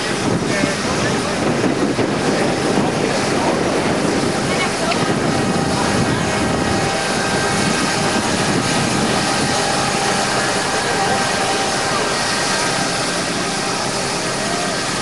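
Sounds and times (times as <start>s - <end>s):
aircraft engine noise: 0.0s - 15.0s
crowd chatter: 0.0s - 15.0s
faint steady tones: 2.0s - 15.0s.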